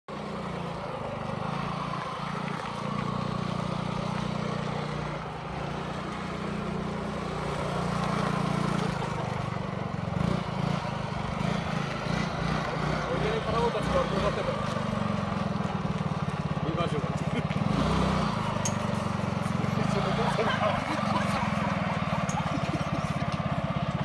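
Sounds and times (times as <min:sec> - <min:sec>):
scooter engine running: 0:00.1 - 0:24.0
tyres on gravel: 0:00.1 - 0:24.0.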